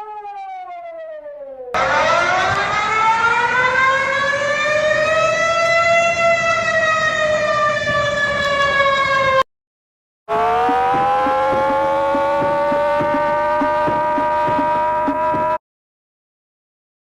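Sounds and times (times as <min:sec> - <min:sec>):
warning siren wailing: 0:00.0 - 0:09.5, 0:10.3 - 0:15.6.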